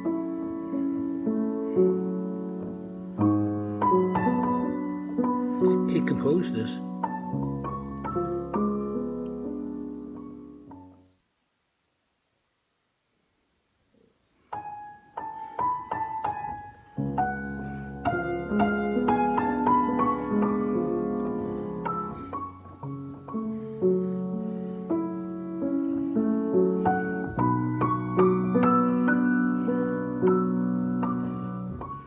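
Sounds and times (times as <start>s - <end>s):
piano chords with low bass: 0.0s - 11.0s, 14.8s - 32.0s.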